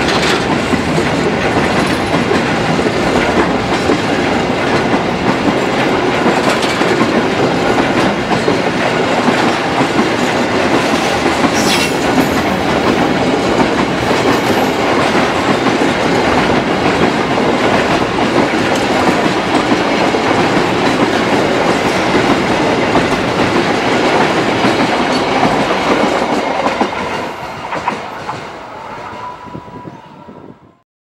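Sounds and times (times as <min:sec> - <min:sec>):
train wheels rolling on rails: 0:00.0 - 0:30.5.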